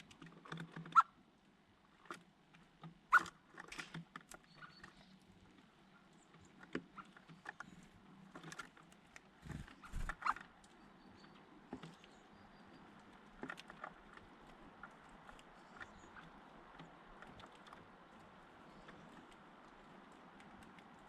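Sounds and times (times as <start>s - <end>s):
birds pecking and scuffling: 0.0s - 21.0s.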